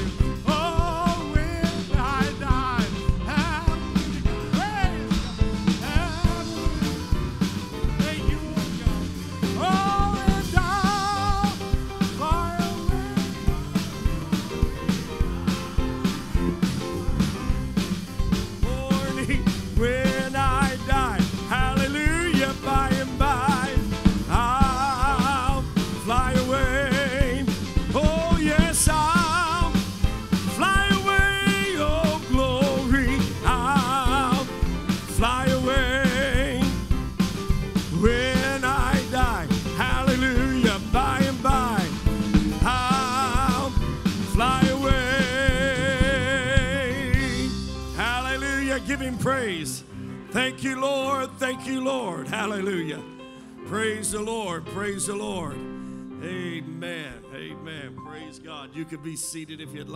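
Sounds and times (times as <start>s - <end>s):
upbeat music with driving beat: 0.0s - 49.8s.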